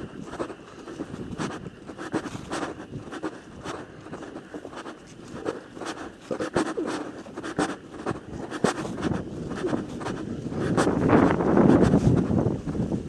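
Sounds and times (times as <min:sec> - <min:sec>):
scratching and crackling: 0:00.0 - 0:12.5.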